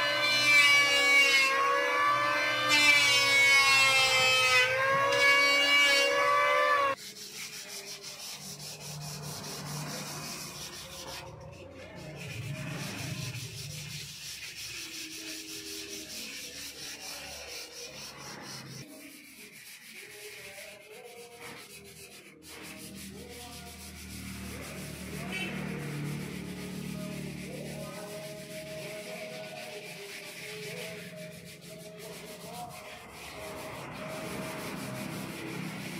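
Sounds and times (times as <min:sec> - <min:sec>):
sandpaper rubbing on wood: 0:00.0 - 0:35.9.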